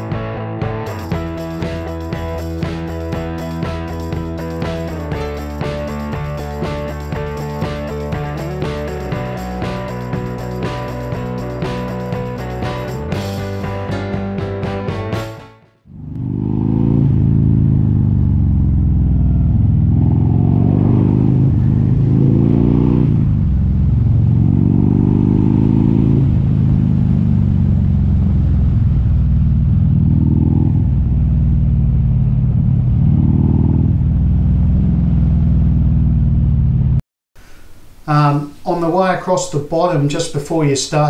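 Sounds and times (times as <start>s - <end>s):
motorcycle engine accelerating: 0.0s - 15.2s, 15.8s - 37.0s.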